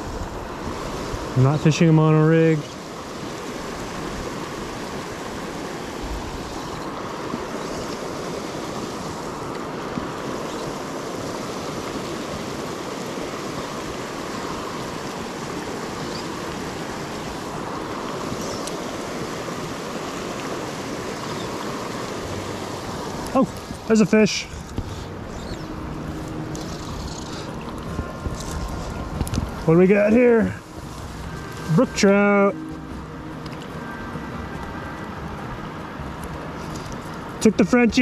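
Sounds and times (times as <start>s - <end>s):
river rushing: 0.0s - 38.0s.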